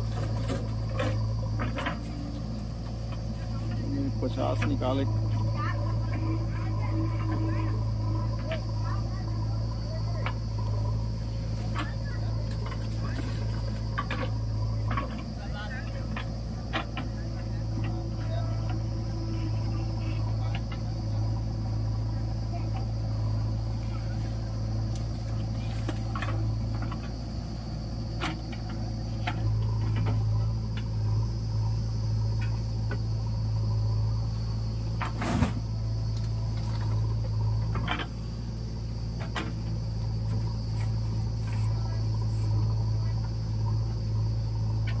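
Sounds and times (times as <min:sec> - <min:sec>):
diesel engines droning: 0:00.0 - 0:45.0.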